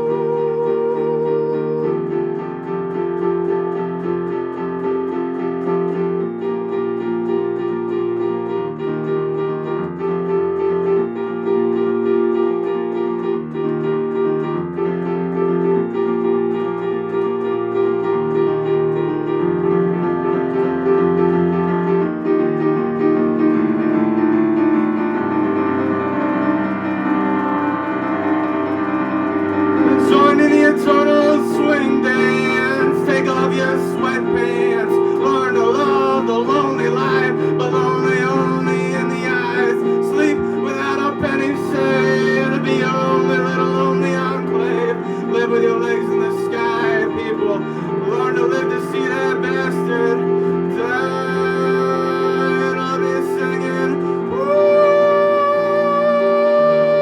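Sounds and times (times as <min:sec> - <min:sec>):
electric piano playing chords: 0:00.0 - 0:57.0.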